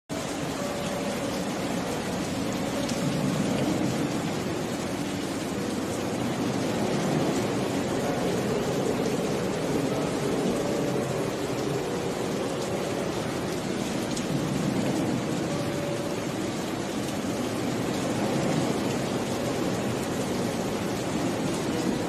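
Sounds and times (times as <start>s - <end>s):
steady rain hiss: 0.1s - 22.0s.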